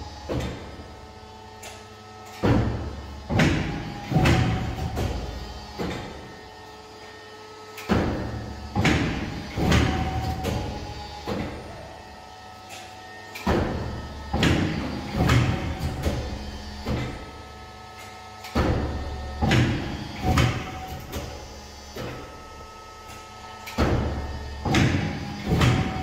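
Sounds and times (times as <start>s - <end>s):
cutting machine clunks and knocks: 0.1s - 0.8s, 1.7s - 6.4s, 7.7s - 11.8s, 12.8s - 22.4s, 23.0s - 26.0s.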